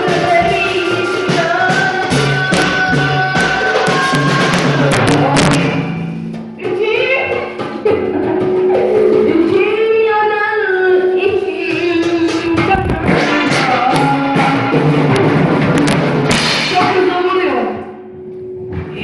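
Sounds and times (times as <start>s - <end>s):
drum kit: 0.0s - 17.4s.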